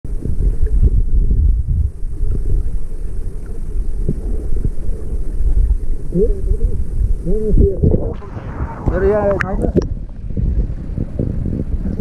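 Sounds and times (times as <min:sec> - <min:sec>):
muffled underwater rumble: 0:00.1 - 0:12.0.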